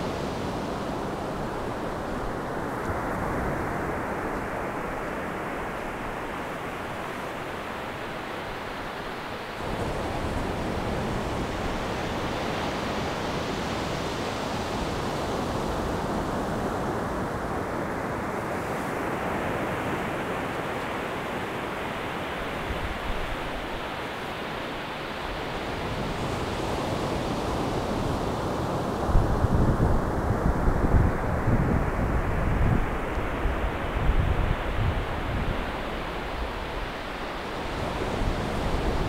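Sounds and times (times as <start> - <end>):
waves washing up a beach: 0.0 - 39.0.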